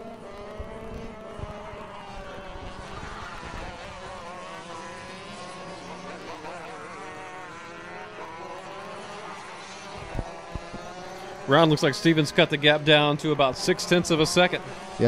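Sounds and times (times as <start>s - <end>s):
kart engines buzzing and revving: 0.0s - 15.0s.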